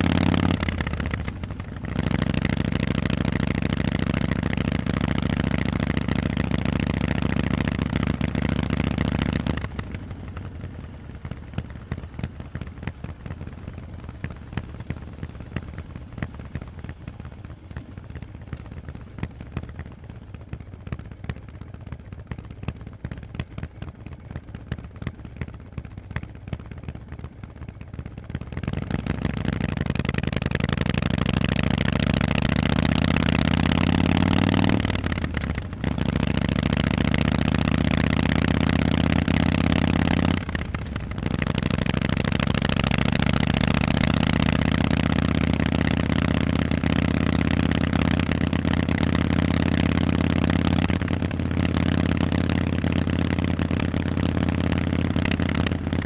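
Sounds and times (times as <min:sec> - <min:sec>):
motorcycle accelerating: 0:00.0 - 0:56.0
motorcycle engine idling: 0:00.0 - 0:56.0.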